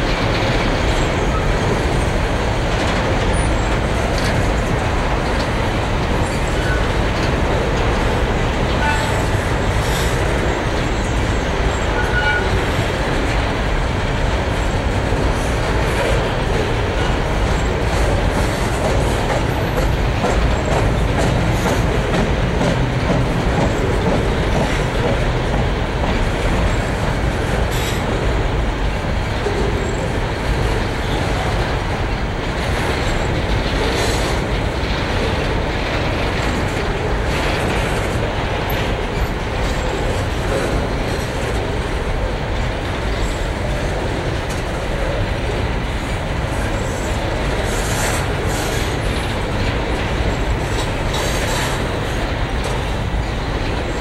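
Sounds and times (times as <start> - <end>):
train wheels rumbling on rails: 0.0 - 54.0
wheels clacking over rail joints: 0.0 - 54.0.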